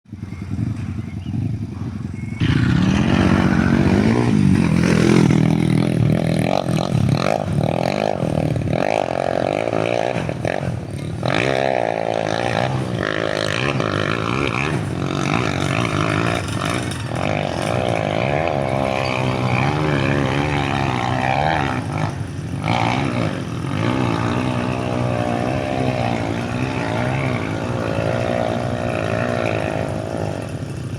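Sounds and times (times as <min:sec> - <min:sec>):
motorcycle engine revving: 0:00.1 - 0:30.9.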